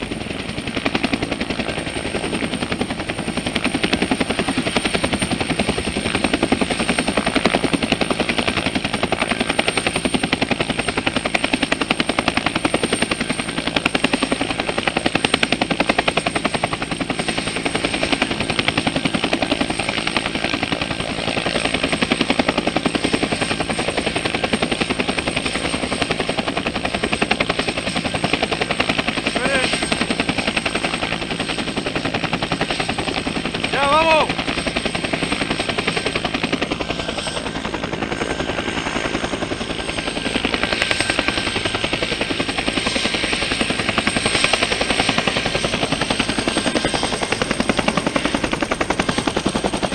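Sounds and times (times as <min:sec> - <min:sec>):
helicopter rotor chopping: 0:00.0 - 0:49.9.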